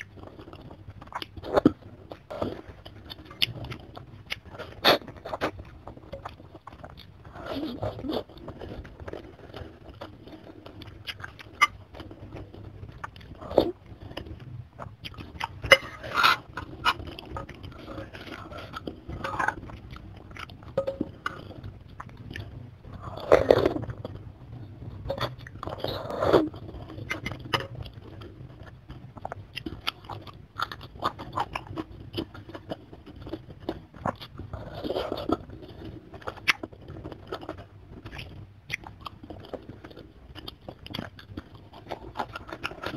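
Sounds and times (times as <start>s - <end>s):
wet chewing and biting: 0.0s - 42.9s.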